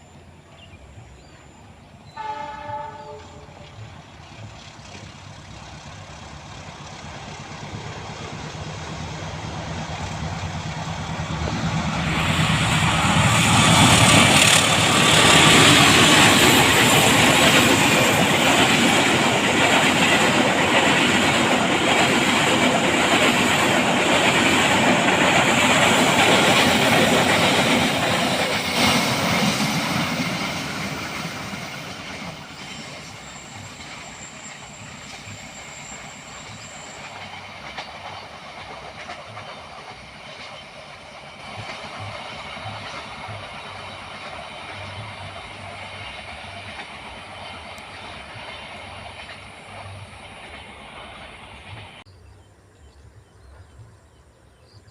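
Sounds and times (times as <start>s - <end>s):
locomotive engine hum: 0.0s - 52.1s
train wheel and rail noise: 0.0s - 52.5s.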